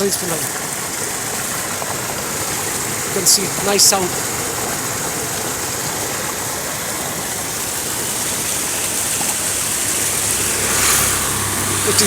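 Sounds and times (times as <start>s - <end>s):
water rushing into field: 0.0s - 12.0s.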